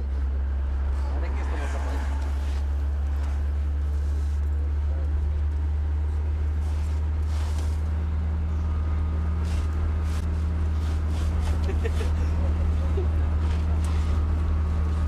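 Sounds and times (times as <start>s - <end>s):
van driving drone from inside: 0.0s - 15.0s.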